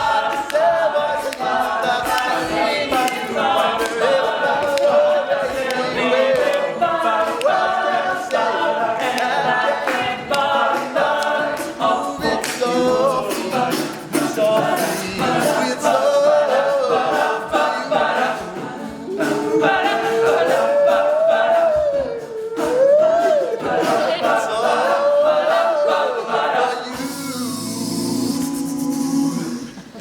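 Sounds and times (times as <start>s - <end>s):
male a cappella group singing: 0.0s - 30.0s.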